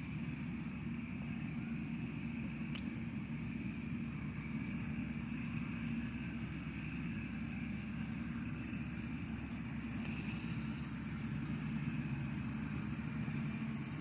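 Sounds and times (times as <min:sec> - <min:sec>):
engine droning: 0:00.0 - 0:14.0
faint high whine: 0:00.0 - 0:14.0.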